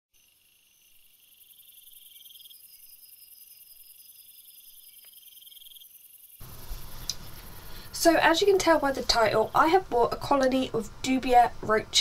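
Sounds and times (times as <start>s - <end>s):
insects chirping: 0.1s - 10.4s.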